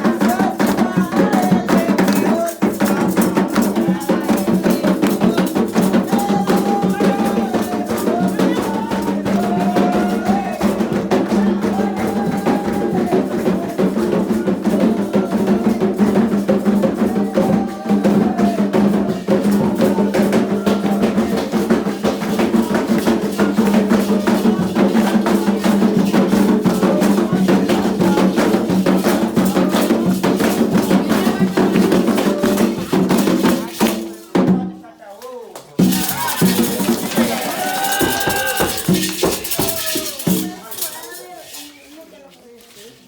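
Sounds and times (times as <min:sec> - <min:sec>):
group chanting: 0:00.0 - 0:34.5, 0:35.8 - 0:40.9
struck bell percussion: 0:00.0 - 0:34.6, 0:35.8 - 0:41.6
drums: 0:00.0 - 0:34.8, 0:35.7 - 0:41.8.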